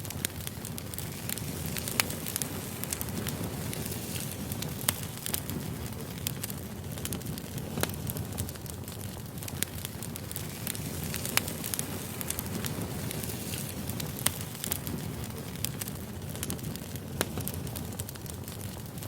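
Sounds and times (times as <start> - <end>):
campfire flames rushing: 0.0 - 19.0
fire crackling and popping: 0.0 - 19.0.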